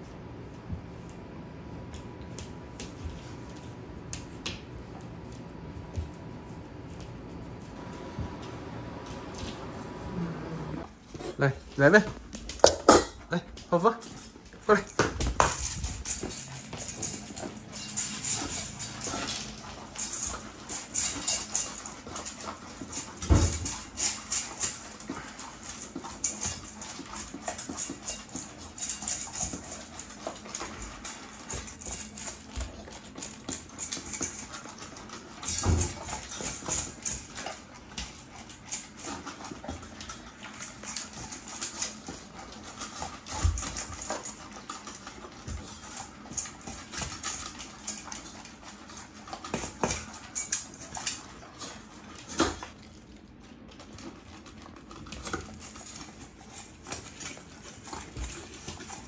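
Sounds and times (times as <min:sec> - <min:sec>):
dogs crunching dry kibble: 0:10.8 - 0:59.0.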